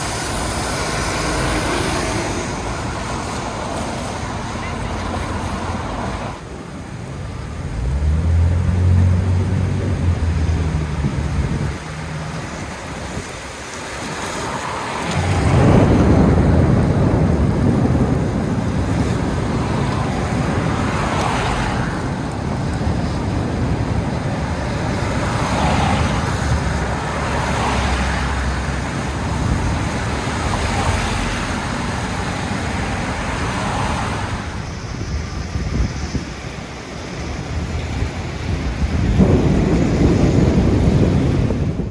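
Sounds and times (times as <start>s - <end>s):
city traffic: 0.0s - 41.9s
gusty storm wind: 0.0s - 41.9s
heavy rain: 0.0s - 41.9s
vehicle engine humming: 0.0s - 41.9s.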